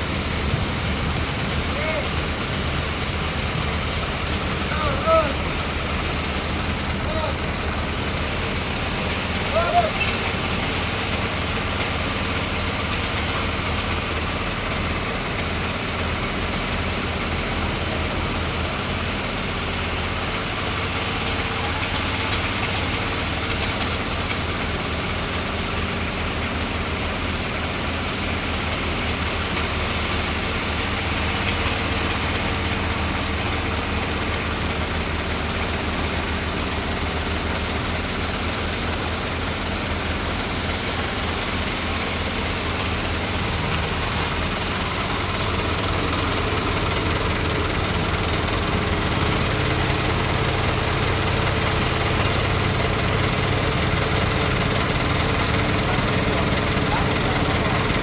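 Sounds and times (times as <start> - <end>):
generator engine droning: 0.0 - 58.0.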